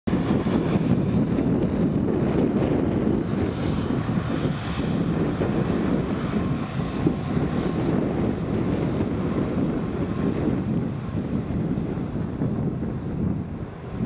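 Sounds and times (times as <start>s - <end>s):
jet engines running: 0.1s - 14.0s.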